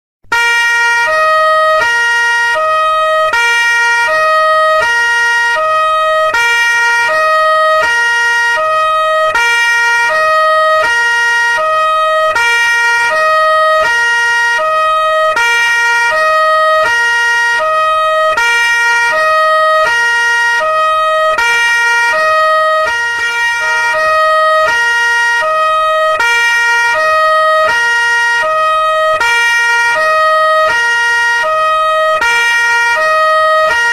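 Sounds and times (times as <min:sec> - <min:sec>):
two-tone police siren: 0:00.2 - 0:33.9.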